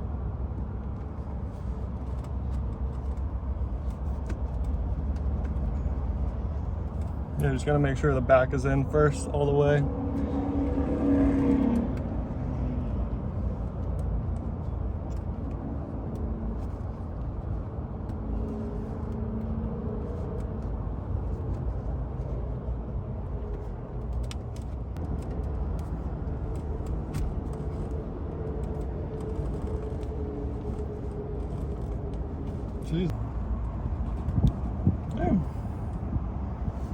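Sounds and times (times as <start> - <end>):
vehicle rumble: 0.0 - 36.9.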